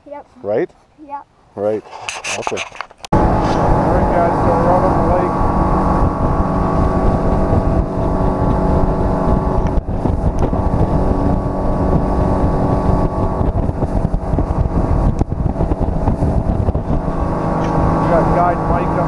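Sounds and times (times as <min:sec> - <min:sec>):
wind buffeting microphone: 0:02.5 - 0:19.0
outboard motor running: 0:03.1 - 0:19.0
water rushing past hull: 0:03.2 - 0:19.0.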